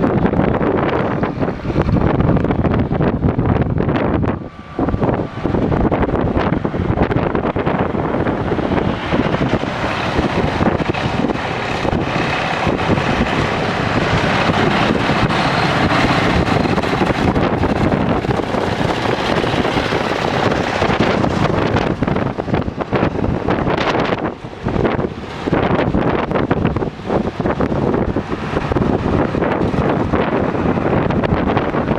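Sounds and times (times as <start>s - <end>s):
motor grader diesel engine: 0.0s - 31.9s
wind buffeting microphone: 0.0s - 31.9s.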